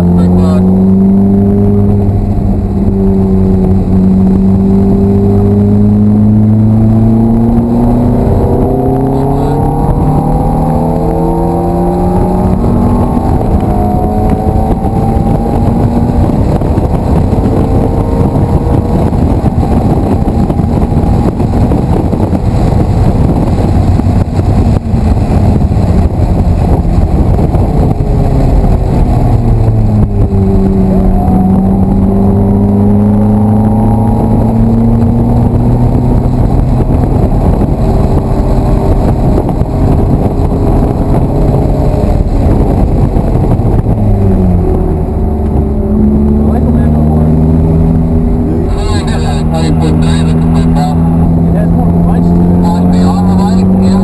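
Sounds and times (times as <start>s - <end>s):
car engine from inside cabin: 0.0s - 54.0s
dense rushing noise: 0.0s - 54.0s.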